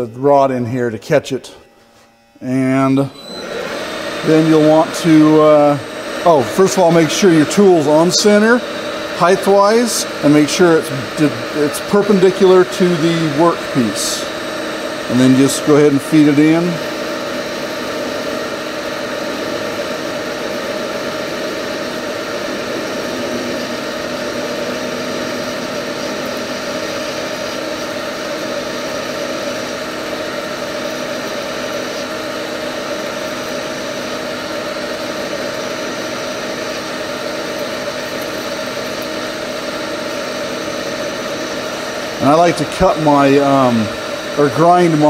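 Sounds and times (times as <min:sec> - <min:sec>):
metal lathe cutting: 0:00.0 - 0:45.0.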